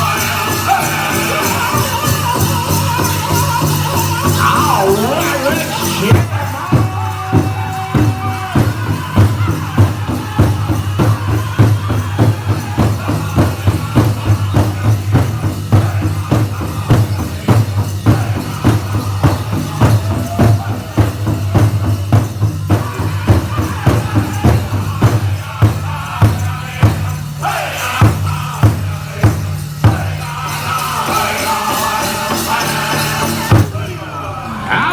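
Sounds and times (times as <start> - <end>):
big drum beat: 0.0 - 33.8
bells jingling: 0.0 - 34.9
group singing: 0.0 - 34.9.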